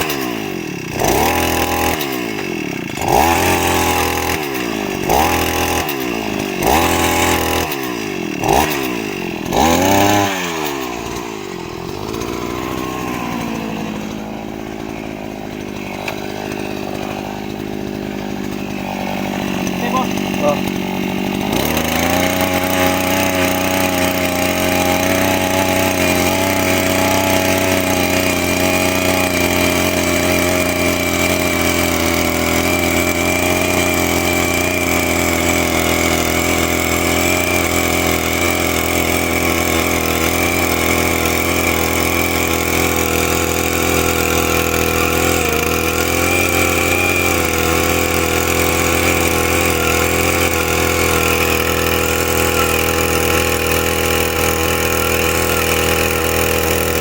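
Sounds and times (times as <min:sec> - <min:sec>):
earth auger engine drilling soil: 0:00.0 - 0:57.0.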